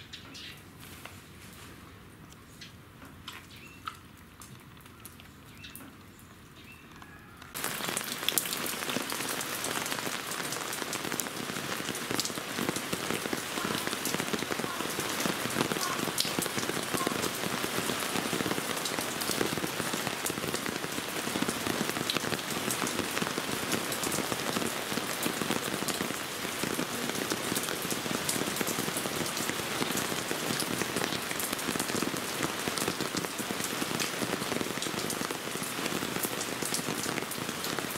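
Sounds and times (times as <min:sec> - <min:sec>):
rain pattering: 0:01.5 - 0:37.9.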